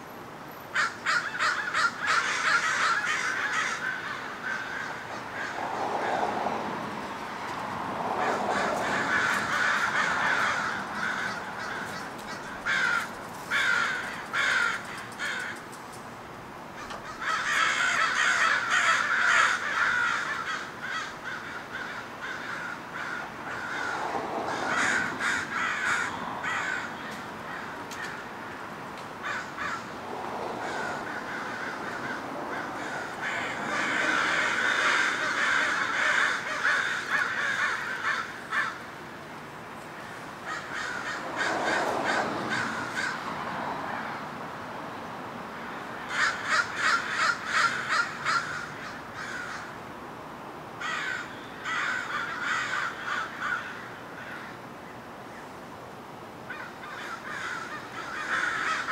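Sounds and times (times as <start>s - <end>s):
crows cawing: 0.7s - 6.6s, 8.1s - 15.8s, 16.8s - 28.6s, 29.2s - 39.0s, 40.0s - 44.3s, 45.6s - 49.8s, 50.8s - 55.0s, 56.5s - 58.9s.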